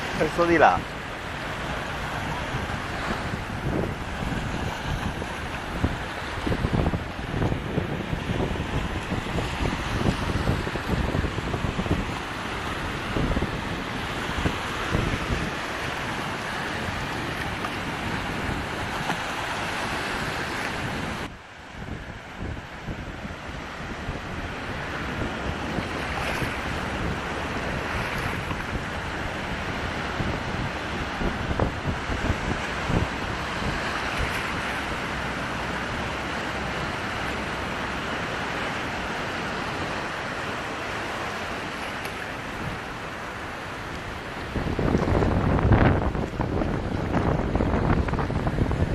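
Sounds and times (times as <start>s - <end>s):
water rushing: 0.0s - 48.9s
wind buffeting microphone: 0.0s - 48.9s.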